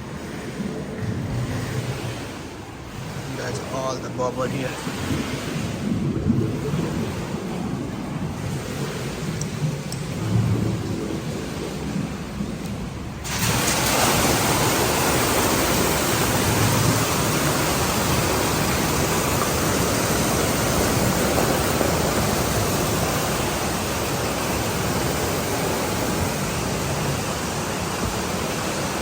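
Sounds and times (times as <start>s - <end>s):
churning water rushing: 0.0s - 29.0s.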